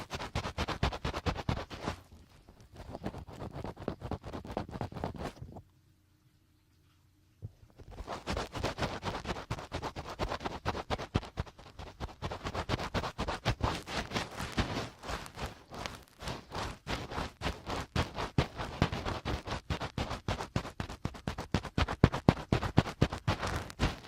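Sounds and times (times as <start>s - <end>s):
fingertips scratching a microphone: 0.0s - 5.6s, 7.8s - 24.0s.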